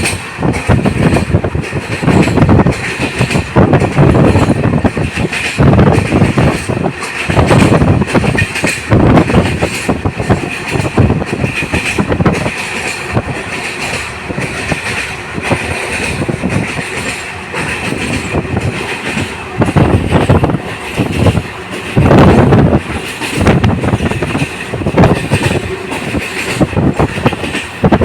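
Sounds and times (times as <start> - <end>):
train wheels rumbling and clattering: 0.0 - 28.0.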